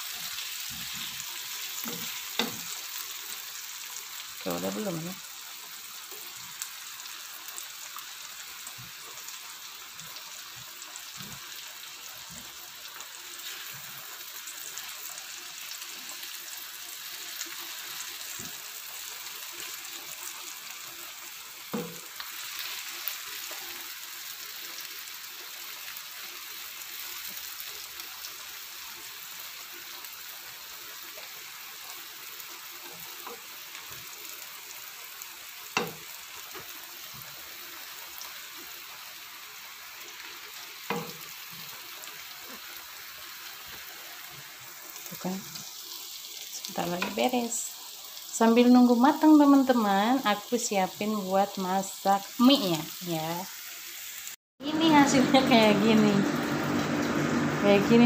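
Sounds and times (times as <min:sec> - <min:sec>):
pumpkin frying in oil: 0:00.0 - 0:58.0.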